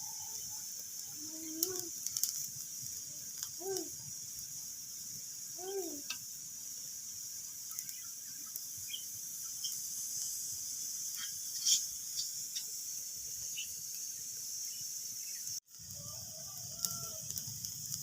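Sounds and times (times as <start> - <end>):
wood fire crackling and popping: 0.1 - 14.5, 15.3 - 18.0.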